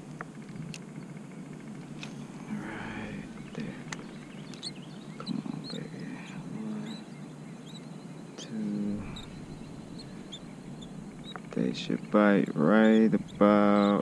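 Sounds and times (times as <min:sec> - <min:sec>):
small birds chirping: 0:00.0 - 0:14.0
steady low background noise: 0:00.0 - 0:14.0.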